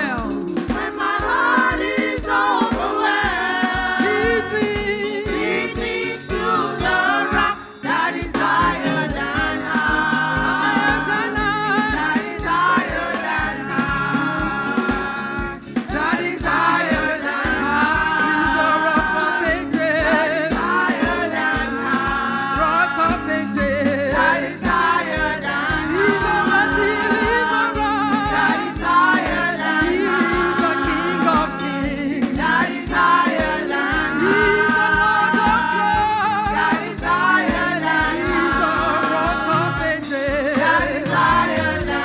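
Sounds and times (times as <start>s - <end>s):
steady drum beat: 0.0s - 42.0s
voices singing held notes: 0.0s - 42.0s.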